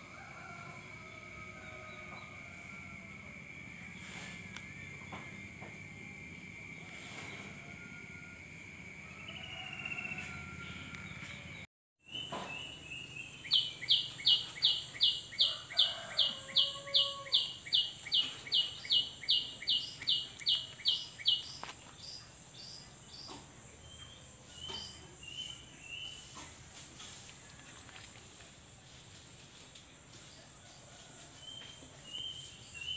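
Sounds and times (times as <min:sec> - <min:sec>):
high insect drone: 0:00.0 - 0:11.4, 0:12.2 - 0:32.9.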